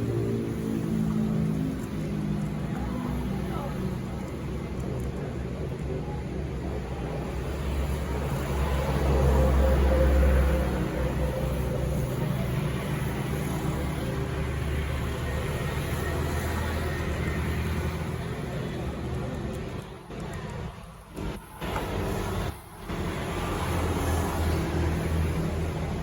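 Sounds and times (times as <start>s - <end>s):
low traffic rumble: 0.0s - 26.0s.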